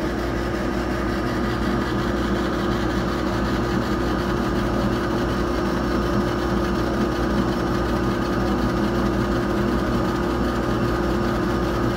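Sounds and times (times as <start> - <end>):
laser engraver humming and whining: 0.0 - 11.9.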